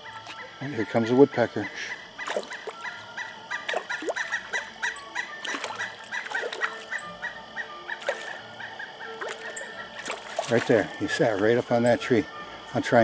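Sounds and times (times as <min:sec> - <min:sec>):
other birds: 0:00.0 - 0:13.0
woodpecker calling: 0:00.0 - 0:13.0.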